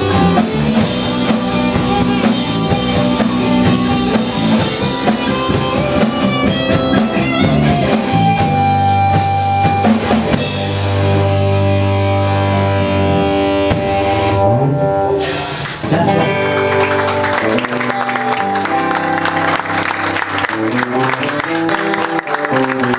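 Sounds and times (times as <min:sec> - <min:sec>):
drum kit: 0:00.0 - 0:22.9
electric guitar: 0:00.0 - 0:22.9
rock band playing: 0:00.0 - 0:22.9.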